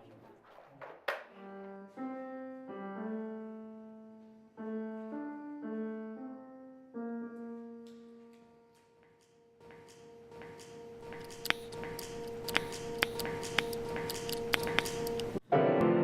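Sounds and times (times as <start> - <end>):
slow piano notes: 1.3 - 16.0.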